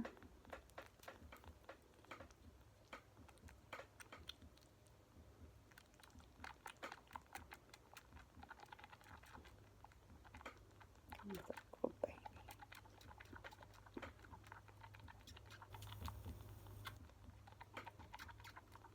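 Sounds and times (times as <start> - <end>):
kitten suckling wet clicks: 0.0 - 18.9.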